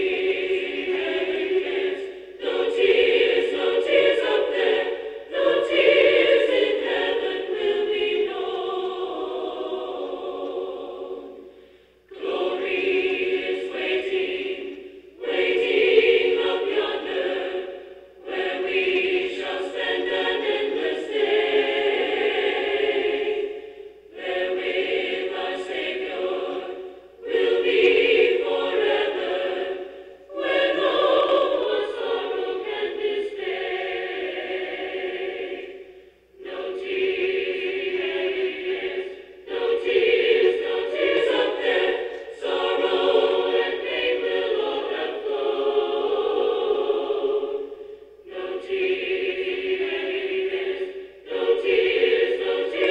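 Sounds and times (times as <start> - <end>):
group singing a hymn: 0.0 - 52.9.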